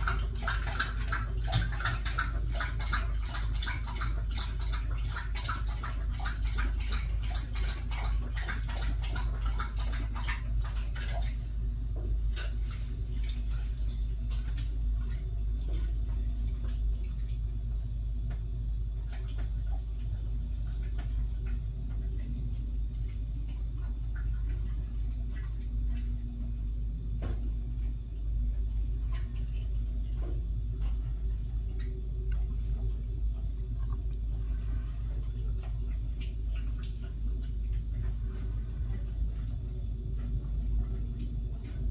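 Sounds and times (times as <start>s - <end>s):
animal lapping water: 0.0s - 41.9s.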